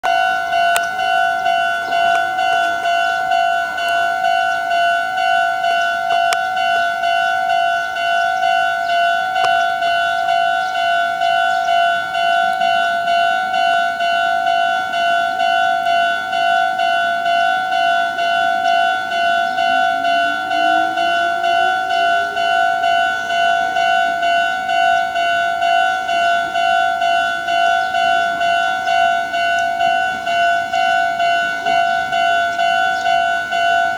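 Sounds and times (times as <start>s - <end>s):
level crossing bell ringing: 0.0s - 33.9s.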